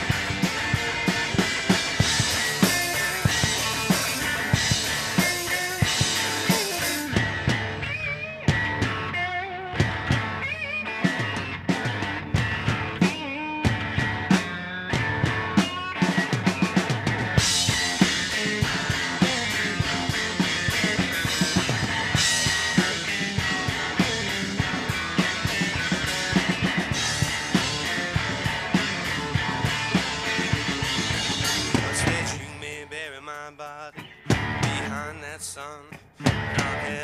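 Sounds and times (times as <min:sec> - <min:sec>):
bass drum: 0:00.0 - 0:09.2, 0:11.2 - 0:14.4, 0:16.3 - 0:32.5, 0:34.3 - 0:35.0, 0:36.3 - 0:37.0
live rock band instrumental: 0:00.0 - 0:33.1, 0:34.0 - 0:35.2, 0:36.0 - 0:37.0.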